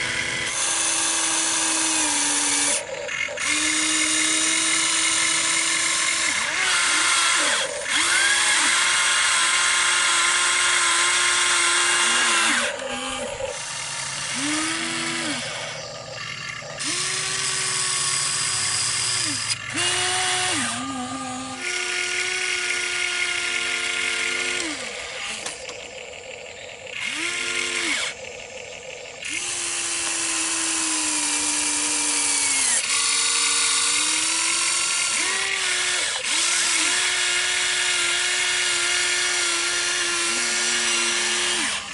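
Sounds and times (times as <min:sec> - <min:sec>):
electric motors whining: 0:00.0 - 0:41.9.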